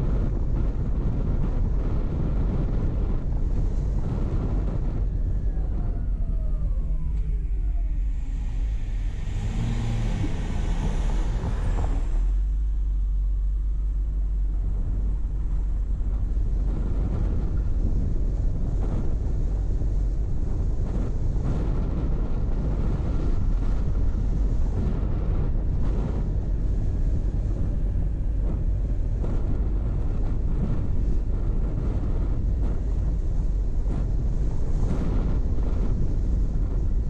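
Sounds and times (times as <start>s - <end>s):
road and engine rumble: 0.0s - 37.0s
wind buffeting microphone: 0.0s - 37.0s.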